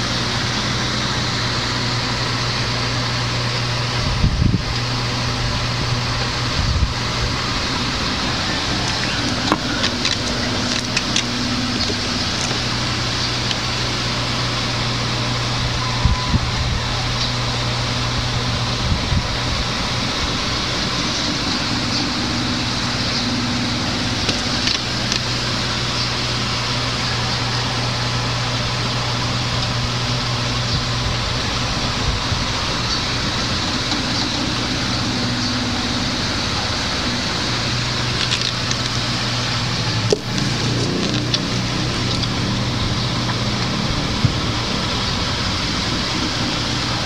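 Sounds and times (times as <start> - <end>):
background hum and hiss: 0.0 - 47.0
low drone: 0.0 - 47.0.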